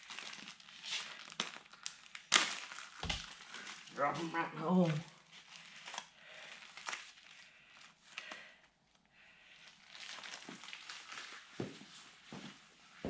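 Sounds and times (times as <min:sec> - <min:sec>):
crinkly rustling: 0:00.0 - 0:13.0.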